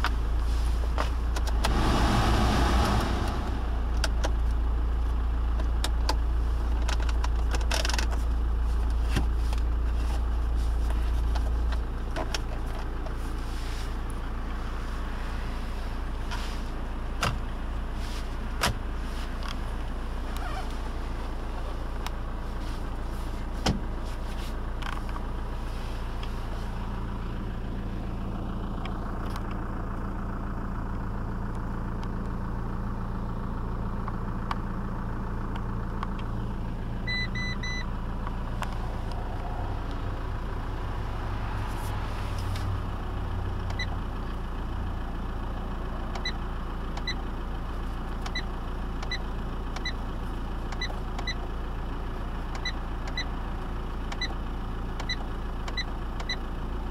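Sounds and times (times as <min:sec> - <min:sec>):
diesel engine idling: 0:00.1 - 0:07.5, 0:16.8 - 0:56.9.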